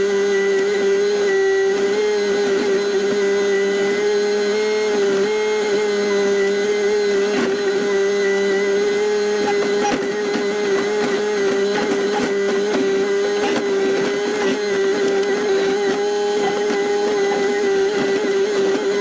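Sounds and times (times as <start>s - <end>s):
excavator engine whining: 0.0s - 19.0s.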